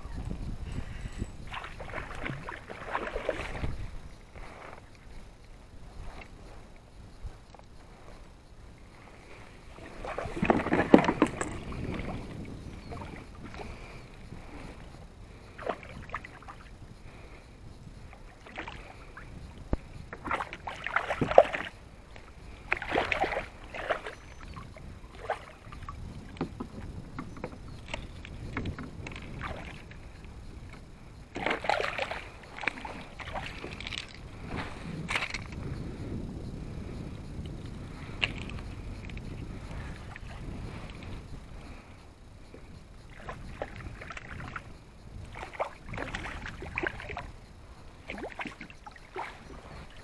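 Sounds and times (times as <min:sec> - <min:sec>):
water splashing against kayak hull: 0:00.7 - 0:17.4, 0:18.0 - 0:35.8, 0:37.9 - 0:50.0.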